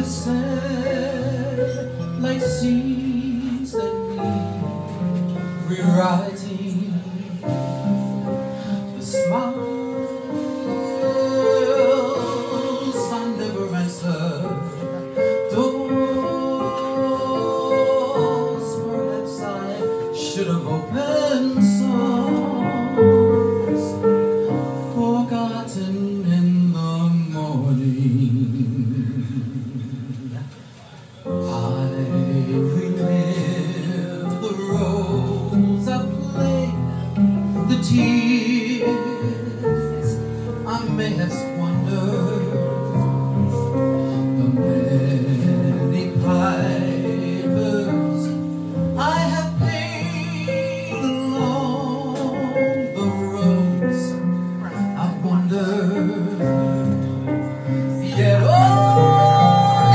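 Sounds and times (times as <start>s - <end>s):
man singing: 0.0s - 24.1s, 24.9s - 59.9s
keyboard playing: 0.0s - 25.2s, 31.4s - 59.9s.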